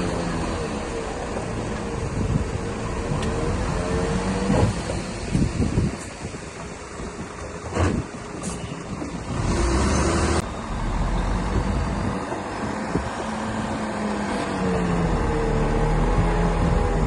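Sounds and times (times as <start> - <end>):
bulldozer diesel engine under load: 0.0 - 17.0.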